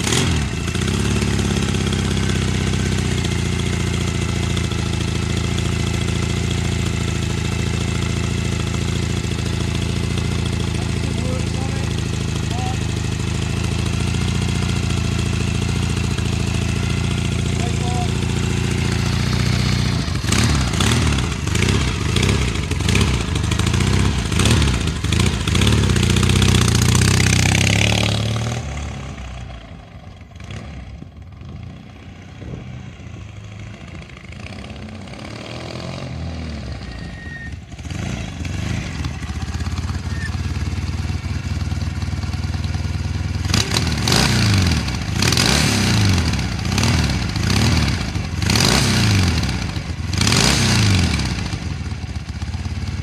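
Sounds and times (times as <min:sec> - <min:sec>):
motorcycle engine revving and idling: 0:00.0 - 0:53.0.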